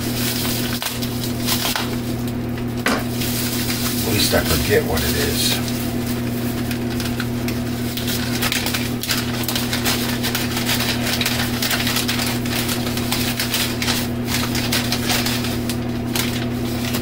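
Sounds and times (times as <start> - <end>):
low electrical hum: 0.0 - 17.0
packaging crinkling and rustling: 0.0 - 17.0.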